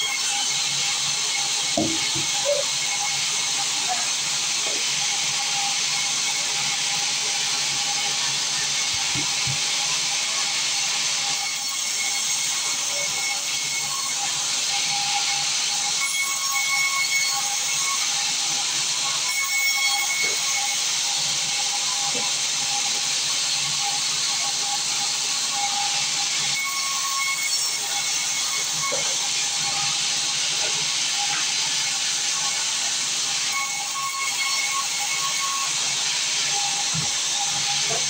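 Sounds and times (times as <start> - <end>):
saw cutting through wood: 0.0 - 38.0.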